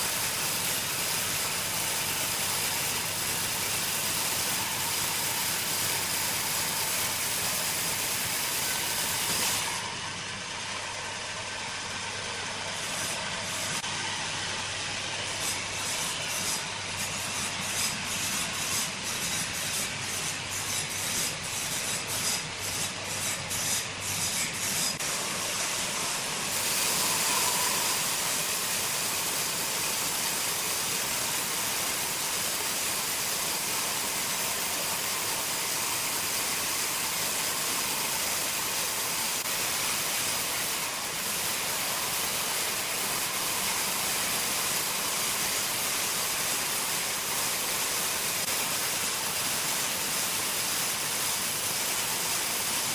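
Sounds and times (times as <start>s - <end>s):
sawmill machinery hissing: 0.0s - 52.9s.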